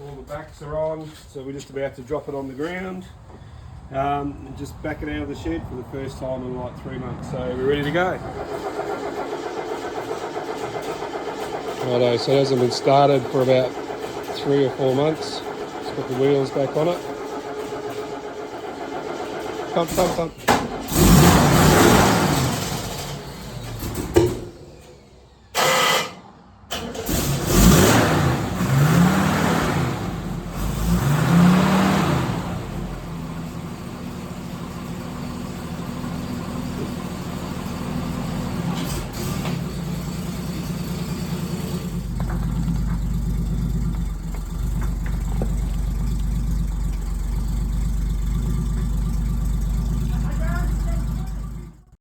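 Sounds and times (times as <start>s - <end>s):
truck engine idling: 0.0s - 27.2s, 28.0s - 52.0s
truck engine starting and revving: 0.0s - 52.0s.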